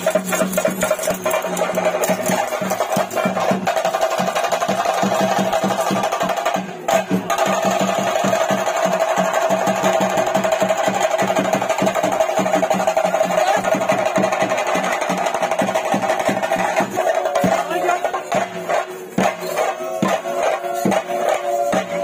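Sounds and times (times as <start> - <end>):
drums in fast roll: 0.0 - 22.0.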